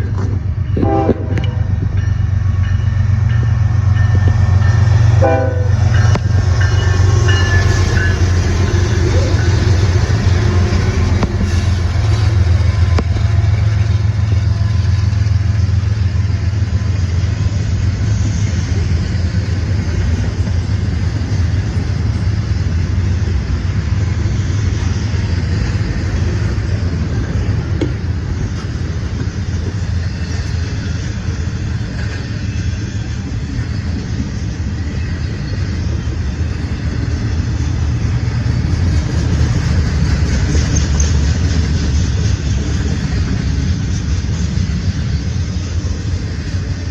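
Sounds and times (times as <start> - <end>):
freight train passing: 0.0 - 46.9.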